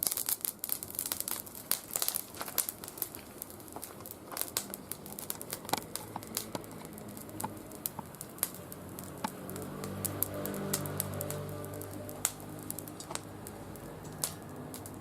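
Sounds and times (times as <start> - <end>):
twigs crackling in fire: 0.0 - 15.0.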